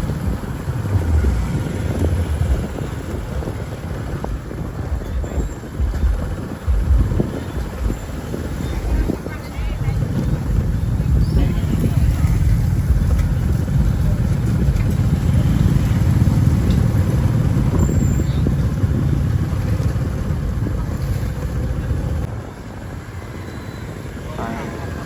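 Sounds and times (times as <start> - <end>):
road traffic rumble: 0.0 - 25.0
wind buffeting microphone: 0.0 - 25.0.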